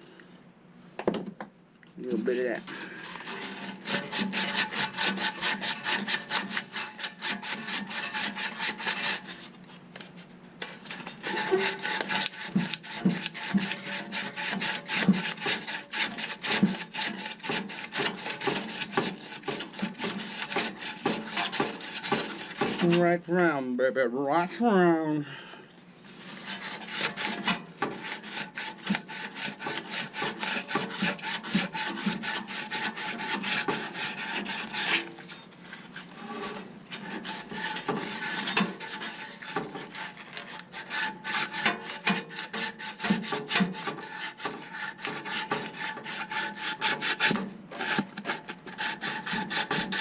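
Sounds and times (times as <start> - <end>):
sandpaper rubbing on metal shaft: 2.1 - 9.5, 10.8 - 23.4, 26.0 - 50.0.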